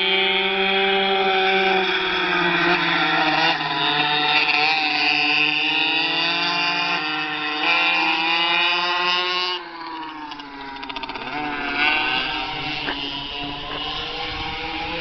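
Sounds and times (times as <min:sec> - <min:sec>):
minibike engines revving: 0:00.0 - 0:15.0.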